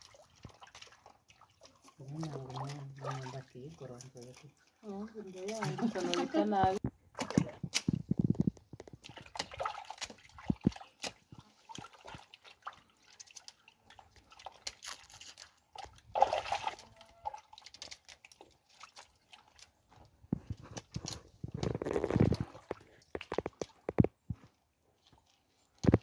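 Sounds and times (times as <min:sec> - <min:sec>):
water sloshing in a plastic bucket: 0:00.0 - 0:26.0.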